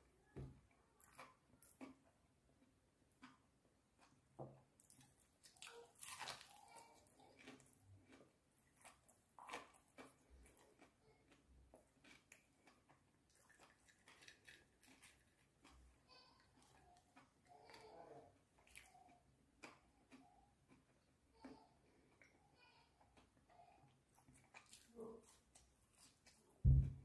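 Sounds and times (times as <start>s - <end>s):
chewing crispy fried chicken: 0.8s - 26.6s.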